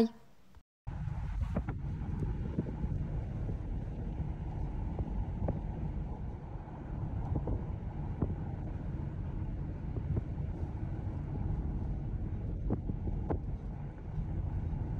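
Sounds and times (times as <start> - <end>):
low rumbling noise: 0.9 - 14.9.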